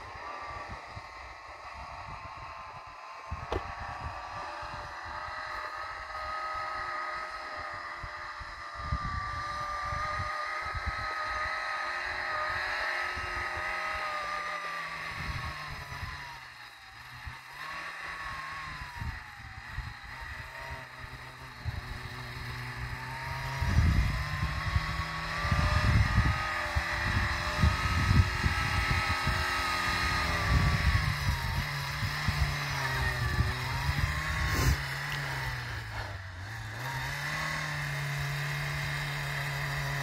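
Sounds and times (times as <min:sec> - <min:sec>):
off-road vehicle engine working hard: 0:00.0 - 0:40.0.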